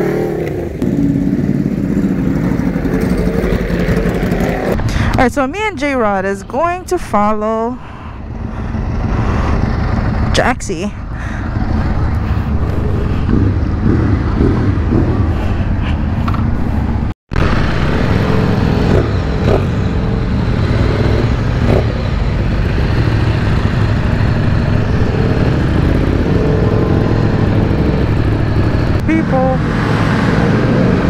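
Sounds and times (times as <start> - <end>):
motorcycle engine drone: 0.0 - 31.0
wind and road rumble: 0.0 - 31.0.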